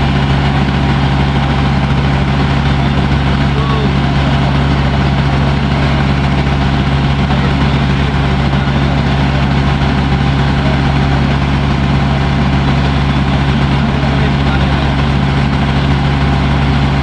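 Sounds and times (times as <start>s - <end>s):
boat engine low hum: 0.0s - 17.0s.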